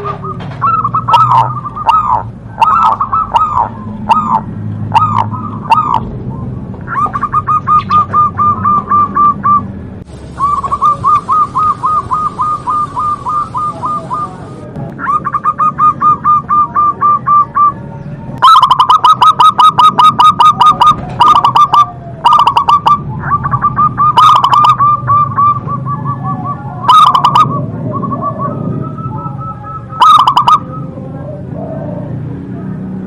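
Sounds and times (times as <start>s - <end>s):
doves cooing: 0.0s - 33.0s.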